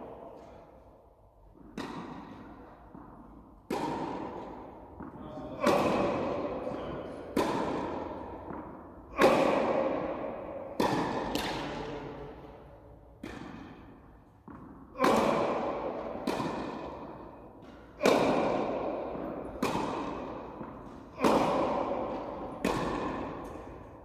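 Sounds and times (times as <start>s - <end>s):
tennis ball struck by rackets: 0.2s - 24.0s
ball bouncing on hard court: 1.4s - 24.0s.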